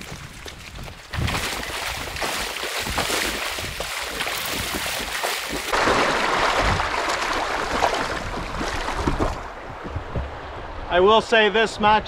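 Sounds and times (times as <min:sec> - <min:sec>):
water splashing around wading legs: 0:00.0 - 0:09.8
river rushing: 0:01.2 - 0:11.5.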